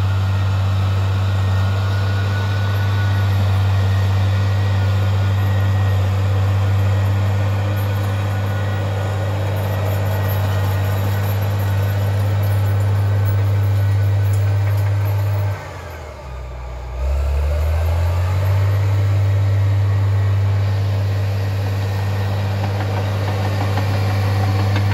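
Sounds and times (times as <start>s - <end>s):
bulldozer diesel engine running: 0.0s - 24.9s.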